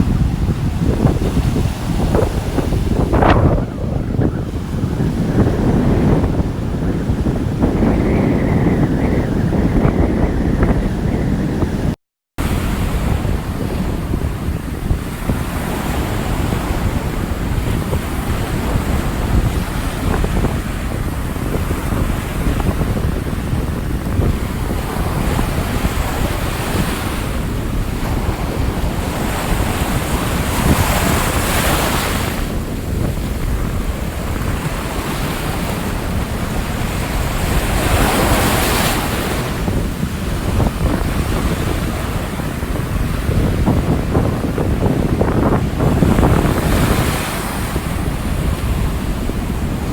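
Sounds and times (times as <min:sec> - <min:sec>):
ocean surf rumble: 0:00.0 - 0:49.9
waves breaking loudly: 0:00.0 - 0:49.9
wind buffeting microphone: 0:00.0 - 0:49.9.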